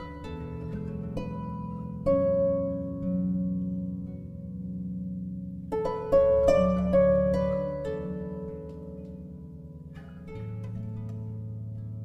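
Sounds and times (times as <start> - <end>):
plucked notes: 0.0 - 12.0.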